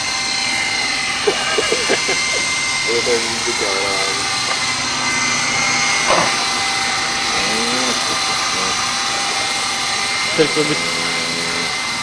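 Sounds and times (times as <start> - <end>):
toy helicopter motor whine: 0.0 - 12.0.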